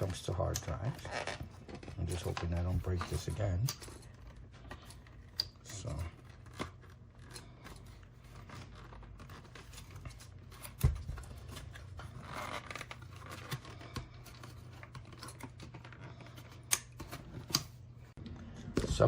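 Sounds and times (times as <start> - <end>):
low steady hum: 0.0 - 19.0
scratching on plastic: 0.0 - 19.0.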